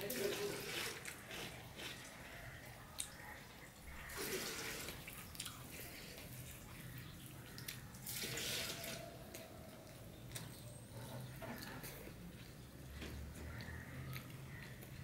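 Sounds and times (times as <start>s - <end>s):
chewing: 0.6s - 15.0s
fingers squelching rice and curry: 0.7s - 15.0s.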